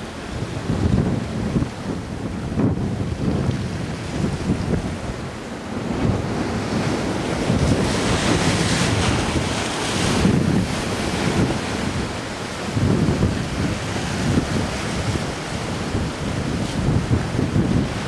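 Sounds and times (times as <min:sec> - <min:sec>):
sea surf against rocks: 0:00.0 - 0:18.0
wind buffeting microphone: 0:00.0 - 0:18.0.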